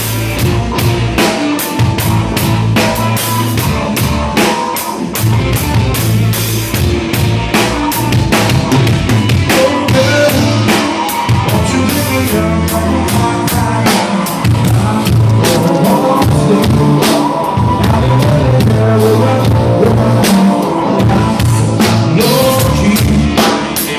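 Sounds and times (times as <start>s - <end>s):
drum kit hits: 0.0s - 23.9s
rock band playing: 0.0s - 23.9s.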